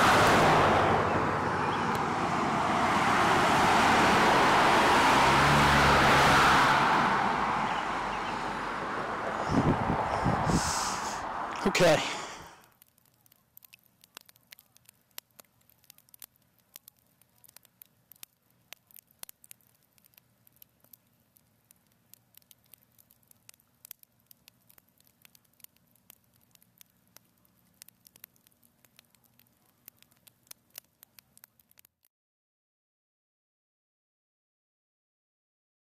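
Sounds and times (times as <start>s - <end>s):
wood fire crackling: 0.1s - 32.1s.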